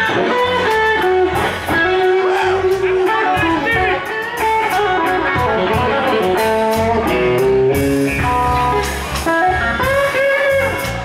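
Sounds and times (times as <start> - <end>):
electric guitar lead line: 0.0 - 11.0
slow blues band playing: 0.0 - 11.0.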